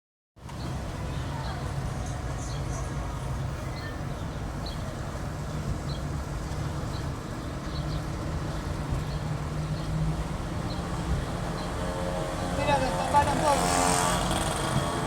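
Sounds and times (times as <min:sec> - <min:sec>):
car engine and tyres rumbling: 0:00.4 - 0:15.0.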